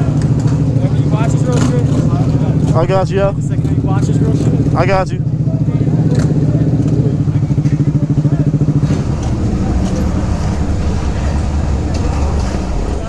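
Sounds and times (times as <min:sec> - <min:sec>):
motorcycle engines idling: 0:00.0 - 0:13.0.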